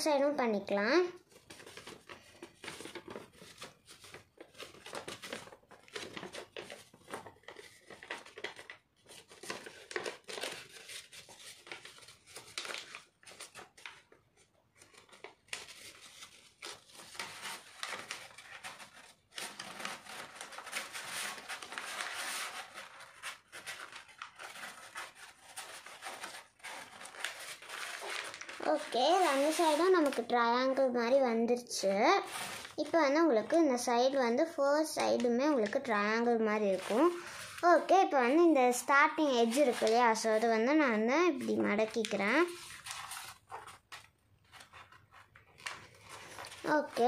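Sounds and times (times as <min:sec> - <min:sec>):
paper rustling and crinkling: 0:01.1 - 0:30.9, 0:31.8 - 0:47.0.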